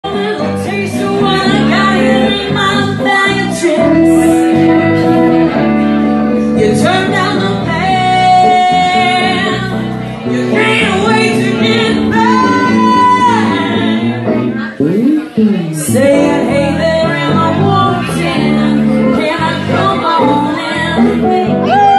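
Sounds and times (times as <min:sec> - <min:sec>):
woman singing: 0:00.0 - 0:04.8, 0:06.6 - 0:14.2, 0:15.5 - 0:21.9
live band with guitar: 0:00.0 - 0:21.9.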